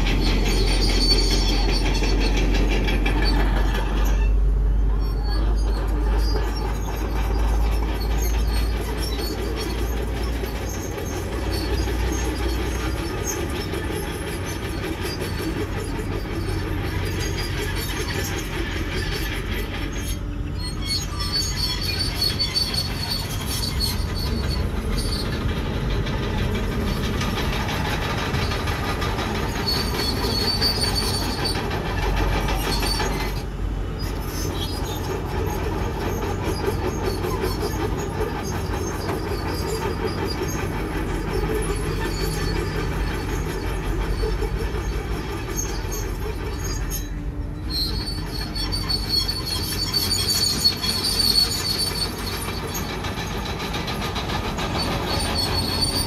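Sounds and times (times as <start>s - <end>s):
bulldozer engine rumbling: 0.0s - 56.0s
steel tracks clanking and squealing: 0.0s - 56.0s.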